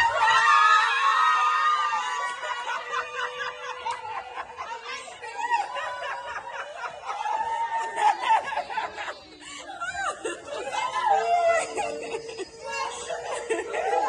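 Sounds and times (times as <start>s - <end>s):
people giggling and chattering: 0.0s - 14.0s.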